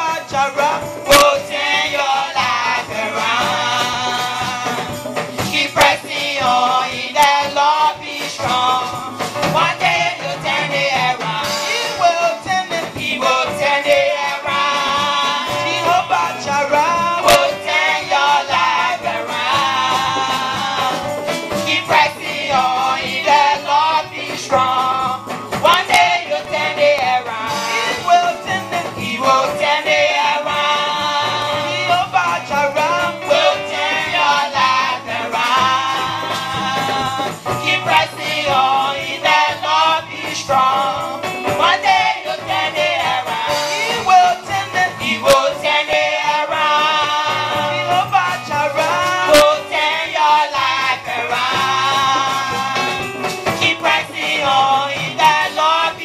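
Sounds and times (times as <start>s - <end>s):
instrumental accompaniment: 0.0s - 56.0s
worship song singing: 0.0s - 56.0s.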